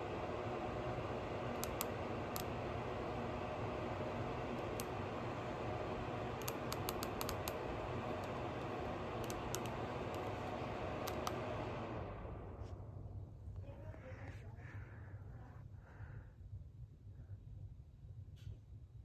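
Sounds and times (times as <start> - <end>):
ceiling fan whooshing and humming: 0.0 - 19.0.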